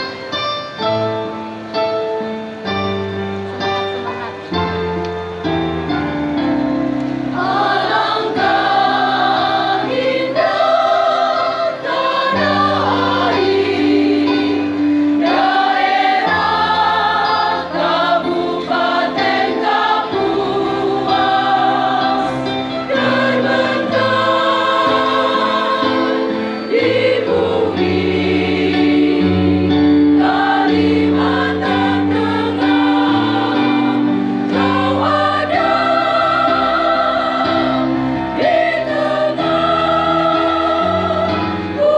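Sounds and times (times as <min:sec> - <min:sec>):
choir singing a hymn: 0:03.8 - 0:41.9.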